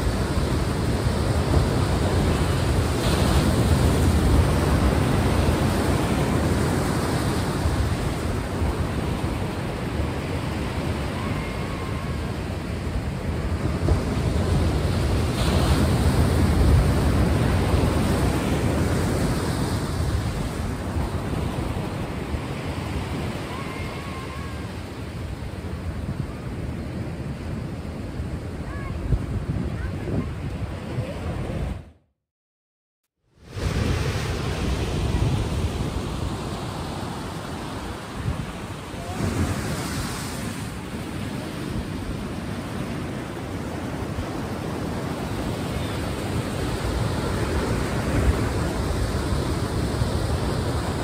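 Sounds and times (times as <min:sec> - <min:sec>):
ocean waves breaking: 0:00.0 - 0:31.8, 0:33.4 - 0:51.0.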